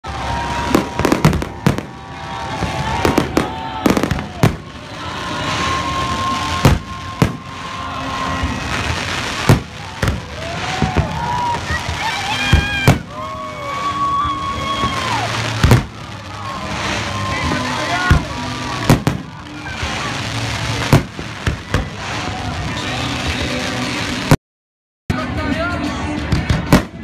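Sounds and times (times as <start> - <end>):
fireworks bursting with bangs: 0.1 - 24.4, 26.2 - 27.0
fireworks crackle and hiss: 0.1 - 24.4.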